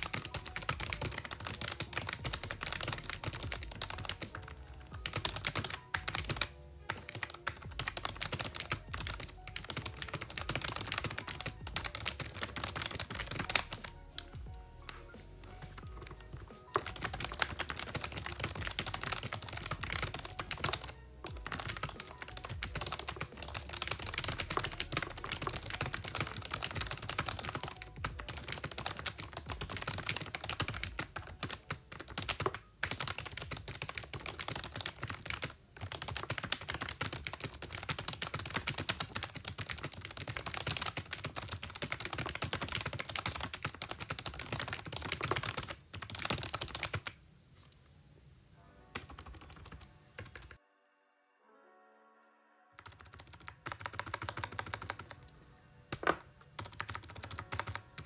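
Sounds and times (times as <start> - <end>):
fast typing on keyboard: 0.0 - 47.2, 49.0 - 50.6, 52.8 - 58.0.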